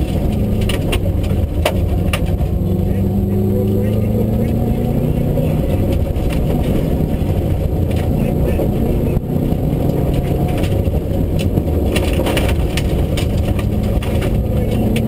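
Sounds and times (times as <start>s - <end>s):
rally car engine running hard: 0.0s - 15.0s
tyres on gravel: 0.0s - 15.0s.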